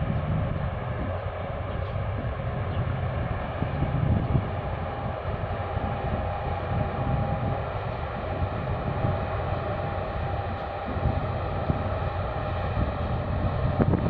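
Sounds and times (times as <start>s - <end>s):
ship engine low rumble: 0.0s - 14.0s.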